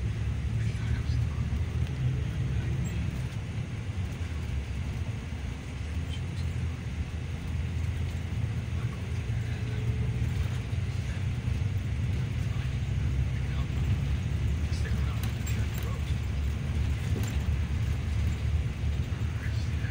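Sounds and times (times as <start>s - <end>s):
bus engine and road noise: 0.0s - 19.9s.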